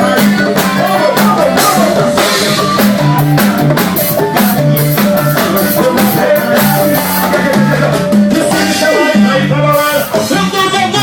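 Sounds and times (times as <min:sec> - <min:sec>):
bass: 0:00.0 - 0:11.0
drum kit: 0:00.0 - 0:11.0
guitar: 0:00.0 - 0:11.0
live band playing upbeat music: 0:00.0 - 0:11.0.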